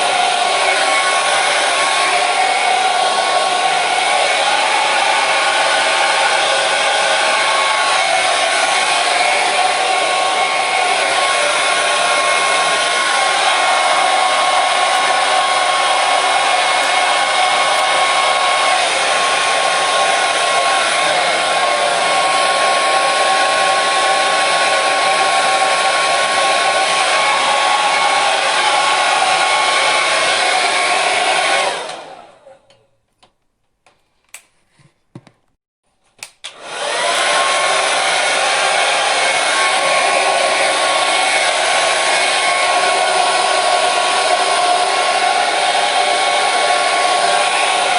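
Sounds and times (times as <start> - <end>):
hair dryer blowing: 0.0 - 32.8, 36.2 - 47.9.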